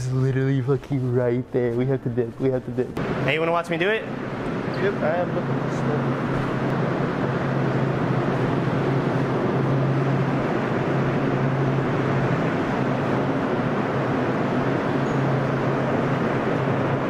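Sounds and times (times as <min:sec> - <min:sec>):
cooler fans whirring: 0:00.0 - 0:17.0
low hum: 0:00.0 - 0:17.0.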